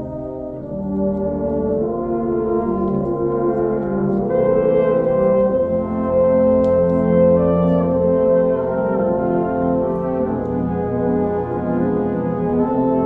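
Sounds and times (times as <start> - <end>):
wind ensemble sustained chords: 0.0 - 13.0.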